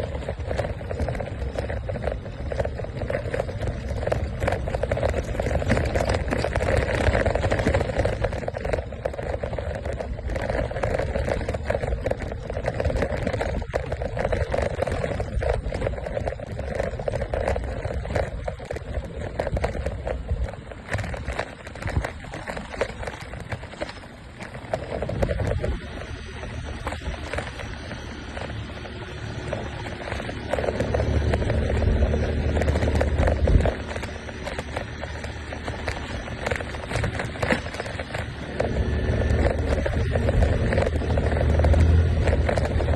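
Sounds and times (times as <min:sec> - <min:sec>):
scooter engine running: 0:00.0 - 0:42.9
wind rumbling on microphone: 0:00.0 - 0:42.9.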